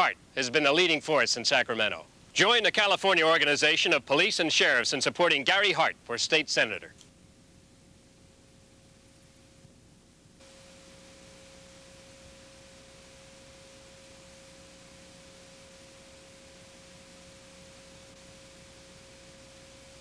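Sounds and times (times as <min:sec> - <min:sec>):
faint steady pure tone: 0:00.0 - 0:20.0
tape hiss: 0:00.0 - 0:20.0.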